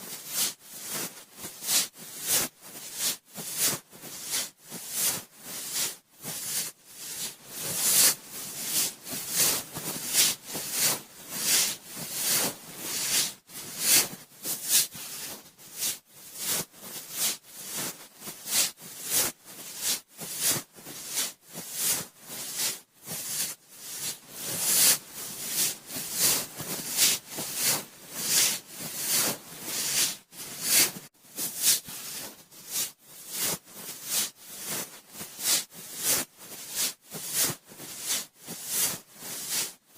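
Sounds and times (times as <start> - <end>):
cotton swab rubbing on microphone: 0.0 - 39.8.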